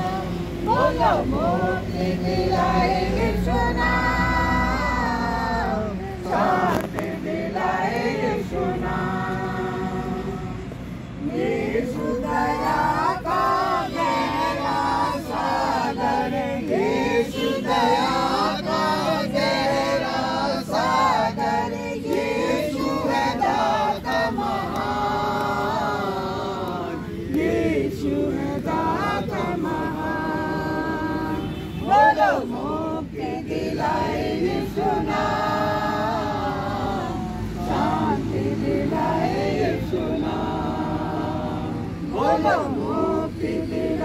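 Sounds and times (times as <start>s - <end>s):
group of people singing: 0.0s - 44.0s.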